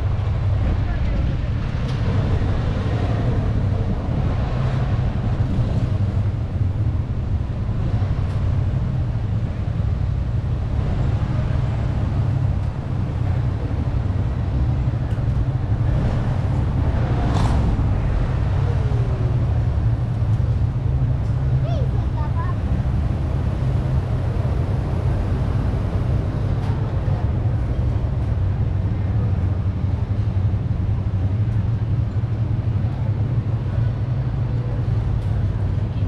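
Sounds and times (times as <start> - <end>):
low street rumble: 0.0 - 36.0.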